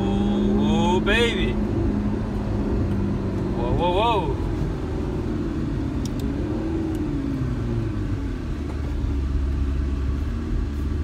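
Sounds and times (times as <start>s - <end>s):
car engine running: 0.0s - 11.0s
road rumble: 0.0s - 11.0s.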